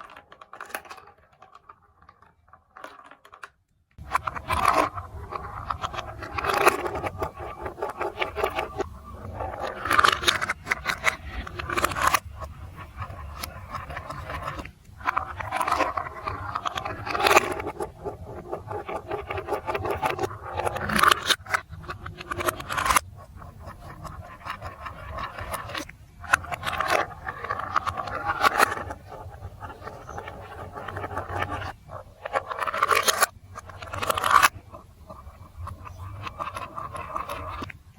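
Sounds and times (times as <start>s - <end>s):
plastic pieces scraping and clattering: 0.0s - 37.9s.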